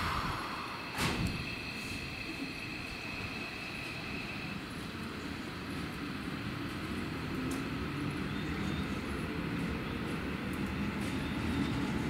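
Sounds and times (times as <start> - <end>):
train cars rumbling: 0.0 - 12.0.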